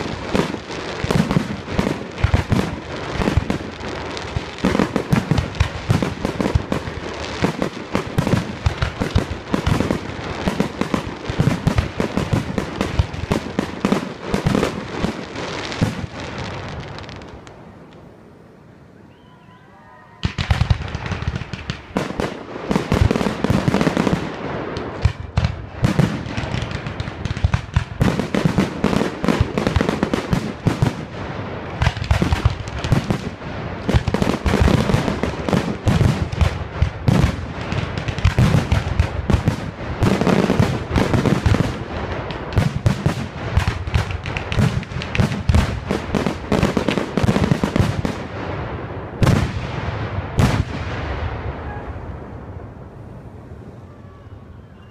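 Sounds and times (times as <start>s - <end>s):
fireworks bursting: 0.0s - 18.2s, 19.1s - 53.0s.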